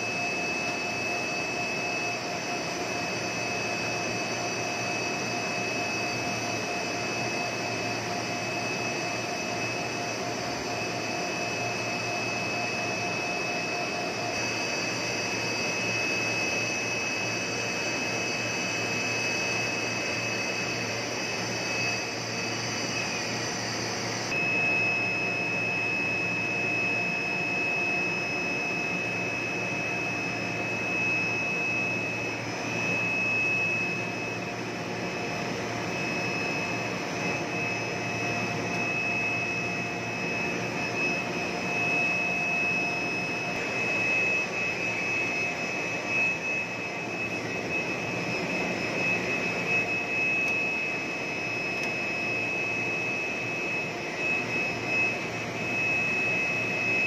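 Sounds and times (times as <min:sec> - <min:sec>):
machine hum with high whine: 0:00.0 - 0:57.0.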